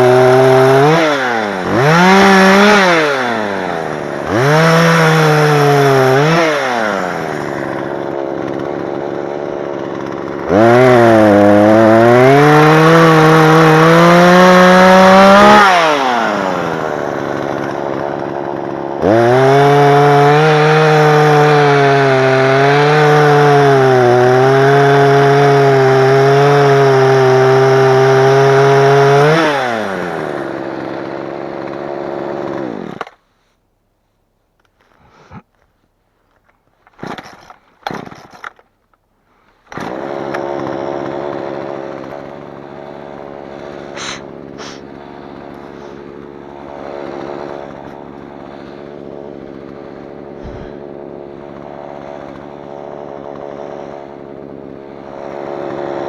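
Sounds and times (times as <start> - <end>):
chainsaw cutting wood: 0.0 - 33.6, 34.6 - 35.6, 36.3 - 56.0.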